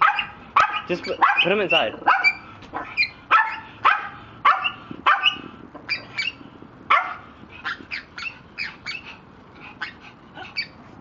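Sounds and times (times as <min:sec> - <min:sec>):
small dog barking: 0:00.0 - 0:09.0.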